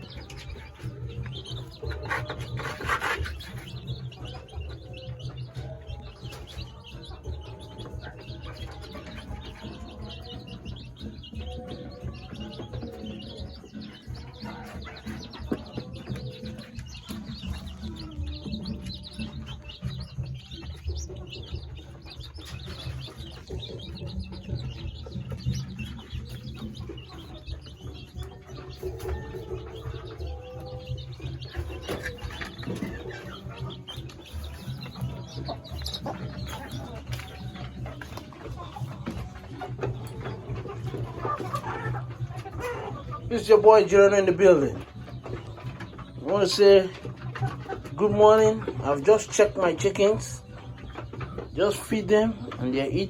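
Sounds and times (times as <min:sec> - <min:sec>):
chickens chirping and clucking: 0:00.0 - 0:53.0.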